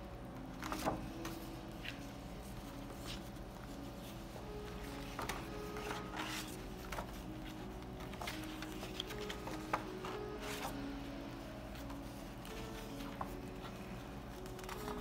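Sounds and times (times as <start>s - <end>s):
paper rustling: 0.4s - 11.0s, 11.7s - 15.0s.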